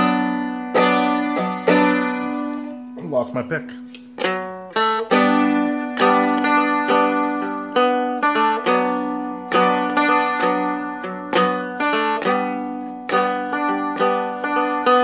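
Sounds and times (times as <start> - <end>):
dulcimer picked and strummed: 0.0 - 15.0.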